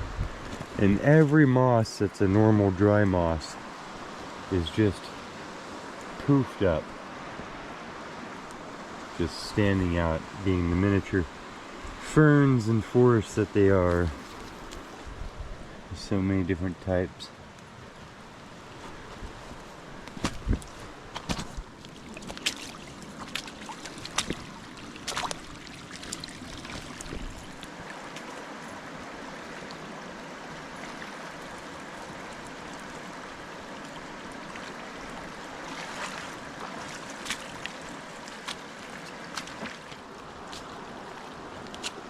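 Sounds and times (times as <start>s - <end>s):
creek water running over gravel: 0.0s - 15.0s, 18.6s - 42.0s.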